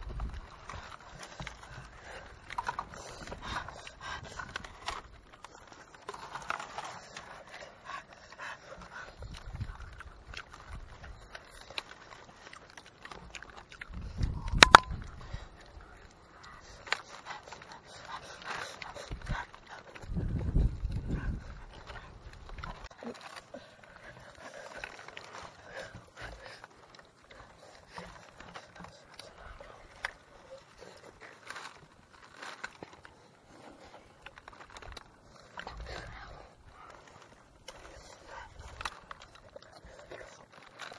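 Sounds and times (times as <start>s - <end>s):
chewing: 0.0s - 40.9s
dry palm leaves crackling: 0.0s - 40.9s
hands picking apart fish: 0.0s - 40.9s.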